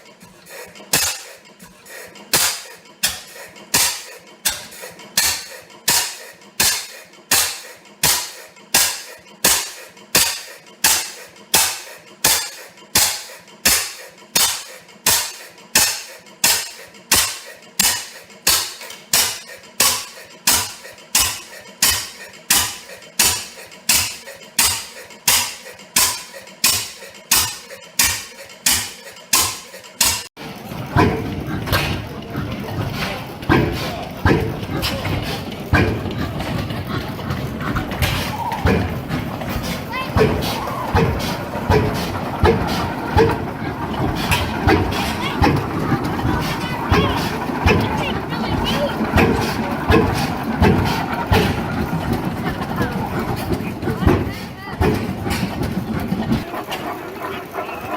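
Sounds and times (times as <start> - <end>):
rough dense steady noise: 0.0 - 57.9
stationary engine exhaust cracks: 0.0 - 57.9.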